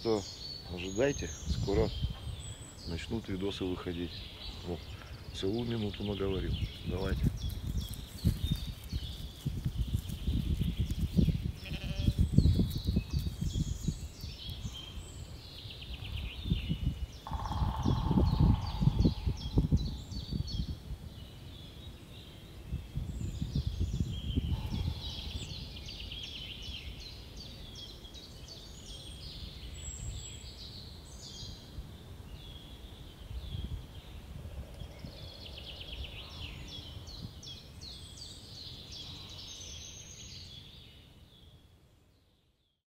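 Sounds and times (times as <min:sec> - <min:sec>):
songbirds chirping and trilling: 0:00.0 - 0:42.8
wind rumble on microphone: 0:00.9 - 0:03.2, 0:04.1 - 0:41.4.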